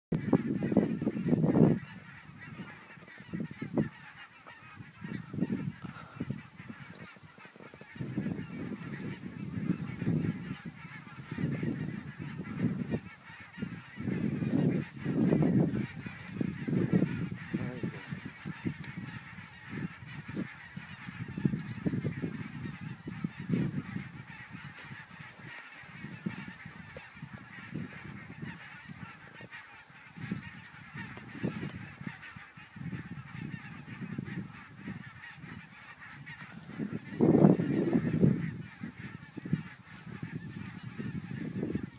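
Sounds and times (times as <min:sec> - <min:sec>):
geese honking: 0:00.1 - 0:41.9
wind buffeting microphone: 0:00.1 - 0:41.9.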